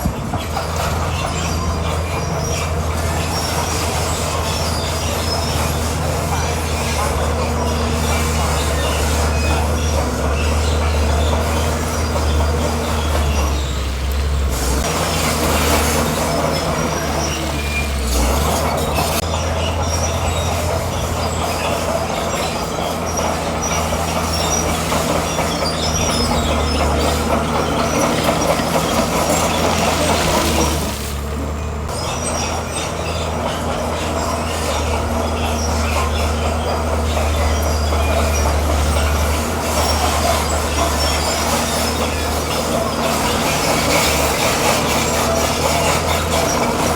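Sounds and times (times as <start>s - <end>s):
bulldozer diesel engine running: 0.0s - 46.9s
high squeals from steel tracks: 0.0s - 46.9s.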